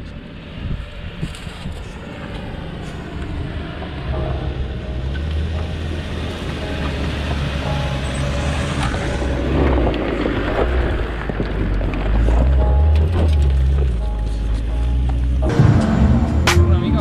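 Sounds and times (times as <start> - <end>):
engine low drone: 0.0 - 17.0.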